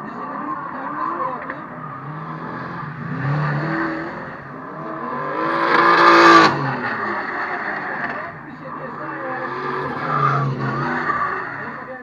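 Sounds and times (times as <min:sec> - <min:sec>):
car engine revving hard: 0:00.8 - 0:12.0.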